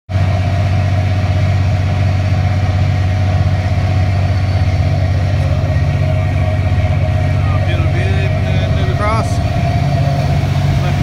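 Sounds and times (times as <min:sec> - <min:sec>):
boat engine droning: 0:00.1 - 0:11.0.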